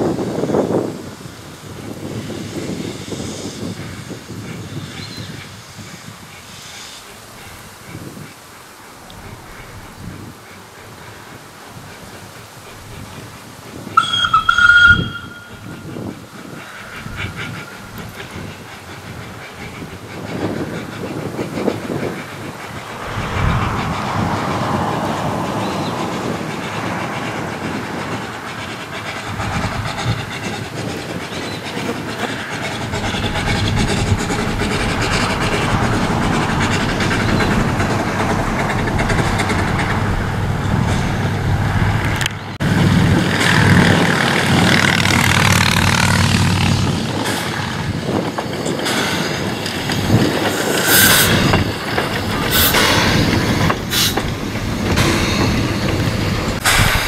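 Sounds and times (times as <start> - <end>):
steam railcar passing: 0.0 - 57.0
wheels clicking over rail joints: 0.0 - 57.0.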